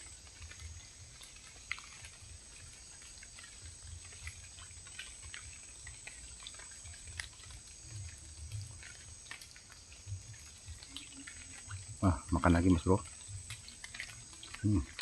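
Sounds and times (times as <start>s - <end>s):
small ticks and drips: 0.0s - 15.0s.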